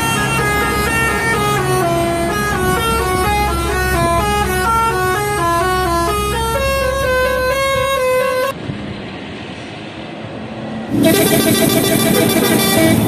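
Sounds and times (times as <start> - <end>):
musical air horn playing notes: 0.0 - 8.5, 10.9 - 13.0.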